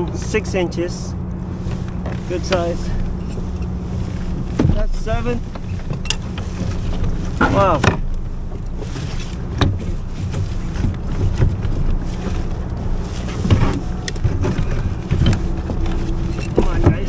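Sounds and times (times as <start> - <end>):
wind and sea rumble: 0.0 - 17.0.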